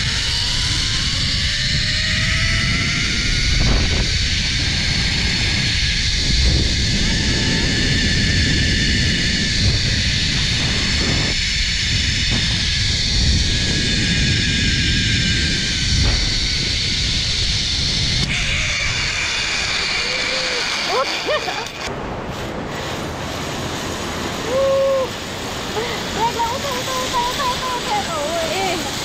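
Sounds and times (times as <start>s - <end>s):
wind on microphone: 0.0s - 29.0s
zipline pulleys whining on cable: 0.0s - 29.0s.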